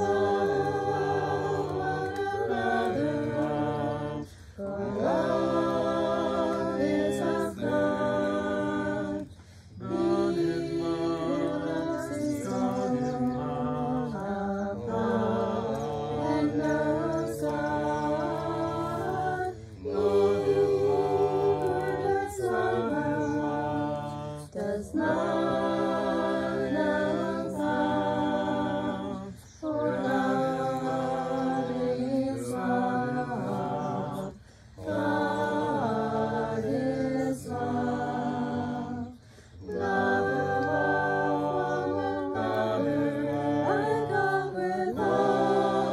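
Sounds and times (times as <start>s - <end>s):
voices singing without instruments: 0.0s - 45.9s.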